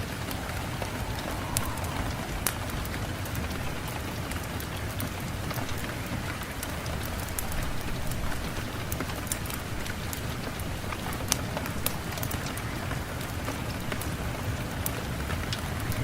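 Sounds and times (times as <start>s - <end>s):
raindrop impacts ticking: 0.0s - 16.0s
steady rain hiss: 0.0s - 16.0s.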